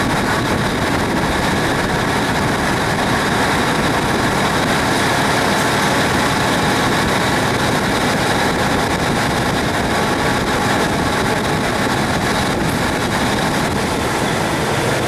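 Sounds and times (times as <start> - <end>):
train running heard on board: 0.0 - 15.0.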